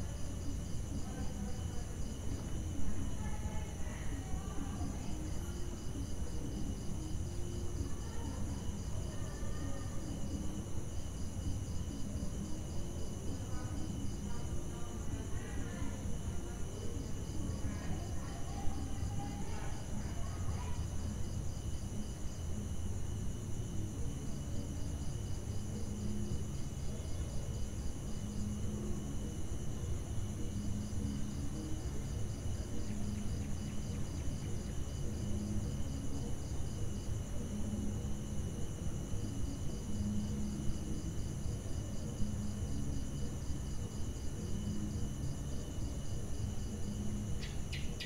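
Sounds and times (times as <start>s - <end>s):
crickets and insects chirping: 0.0s - 48.0s
pulsing insect trill: 0.0s - 48.0s.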